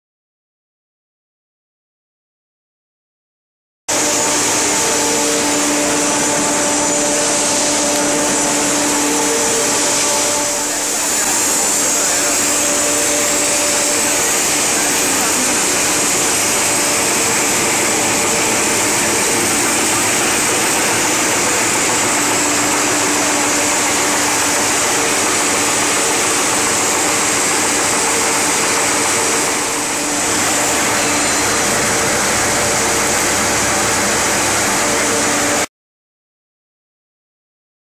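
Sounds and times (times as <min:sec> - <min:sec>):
snack extruder machine hissing: 0:03.9 - 0:35.7.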